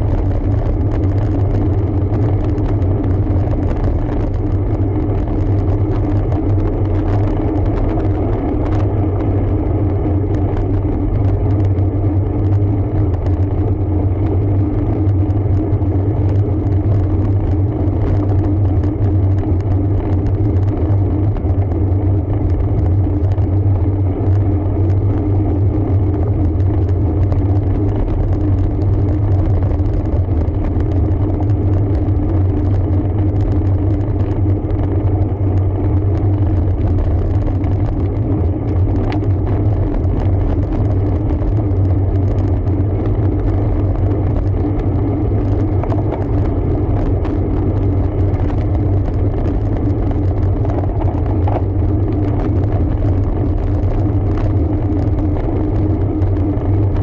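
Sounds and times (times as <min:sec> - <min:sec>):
bike riding rumble: 0:00.0 - 0:57.0.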